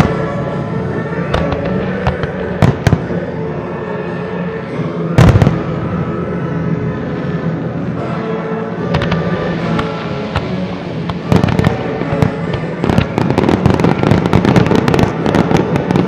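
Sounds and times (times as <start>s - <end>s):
sustained music: 0.0s - 16.0s.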